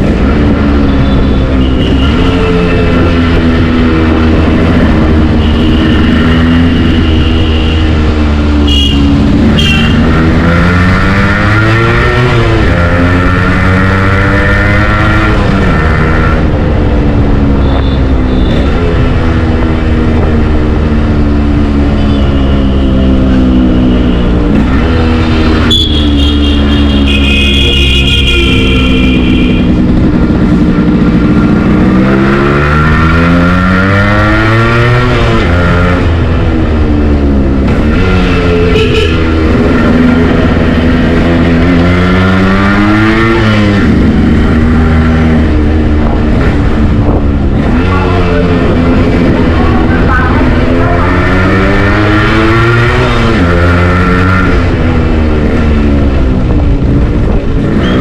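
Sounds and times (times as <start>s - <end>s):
two-stroke motorcycle engine: 0.0s - 58.0s.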